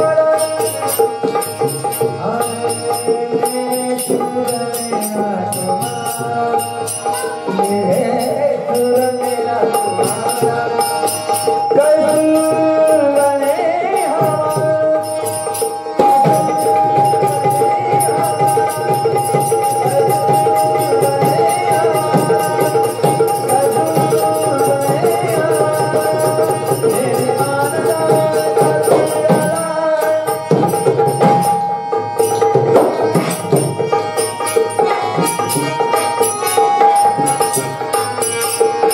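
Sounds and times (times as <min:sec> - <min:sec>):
person singing: 0:00.0 - 0:31.7
jingling small percussion: 0:00.0 - 0:38.9
tabla: 0:00.0 - 0:38.9.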